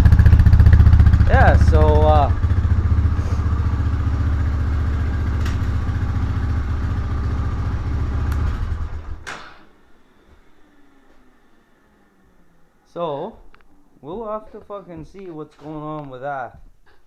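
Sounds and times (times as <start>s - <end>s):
engine idling: 0.0s - 15.3s.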